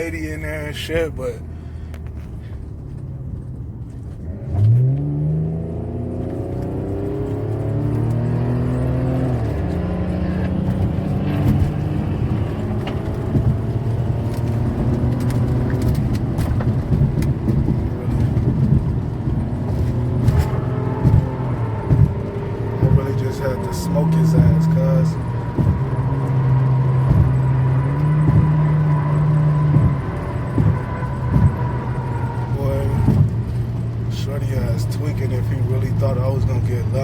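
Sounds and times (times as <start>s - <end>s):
car engine accelerating hard: 0.0s - 37.0s
road noise: 0.0s - 37.0s.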